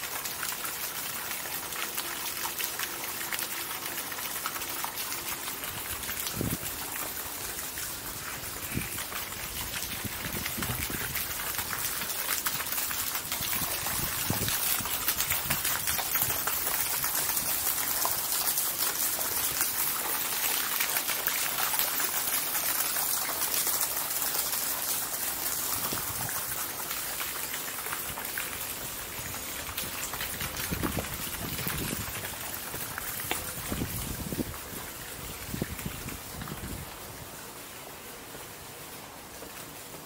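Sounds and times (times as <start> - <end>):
fountain water splashing: 0.0 - 40.0.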